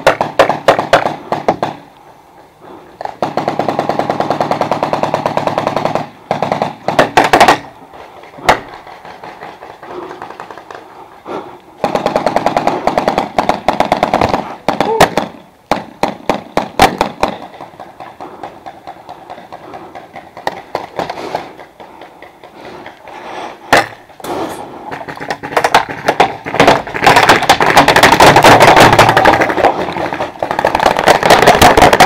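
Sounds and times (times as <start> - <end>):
paintball pistols firing: 0.0 - 1.9, 3.0 - 10.9, 11.8 - 22.9, 23.7 - 32.0.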